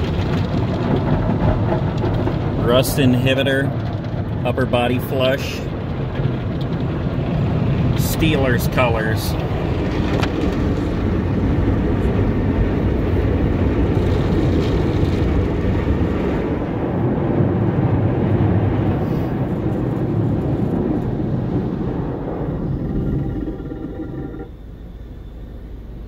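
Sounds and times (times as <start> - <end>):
car wash water rushing: 0.0 - 24.5.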